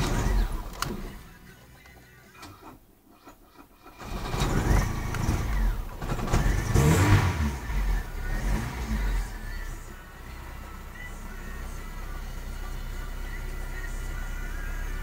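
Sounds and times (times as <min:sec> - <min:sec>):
car engine starting: 0:00.0 - 0:15.0.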